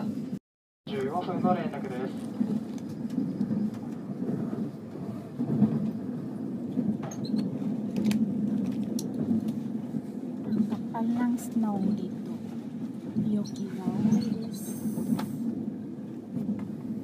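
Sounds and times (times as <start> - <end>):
train rumble inside passenger car: 0.0 - 17.0.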